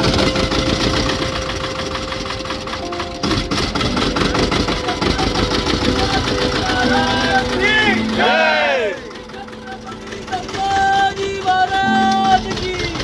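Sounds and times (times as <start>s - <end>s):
motorboat engine clattering: 0.0s - 13.0s.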